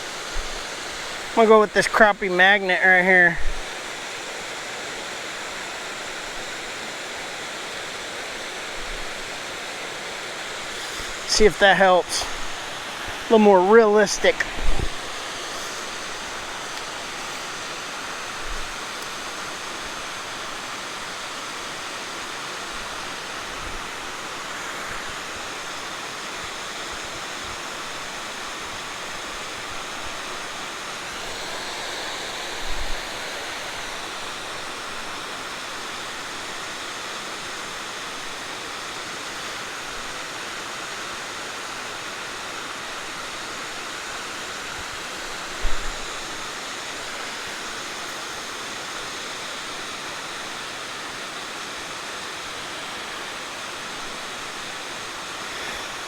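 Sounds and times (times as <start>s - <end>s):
water rushing over spillway: 0.0s - 56.0s.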